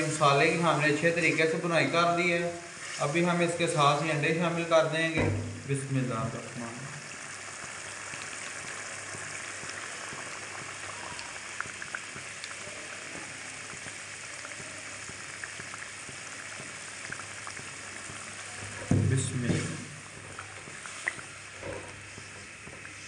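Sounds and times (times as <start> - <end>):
masala sizzling in oil: 0.0 - 23.0.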